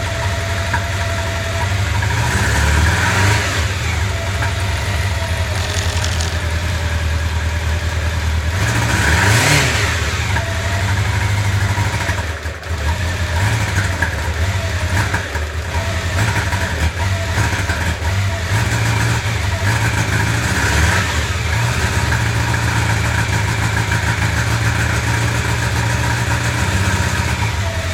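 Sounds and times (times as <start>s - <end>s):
motorcycle engine misfiring and revving: 0.0s - 27.9s.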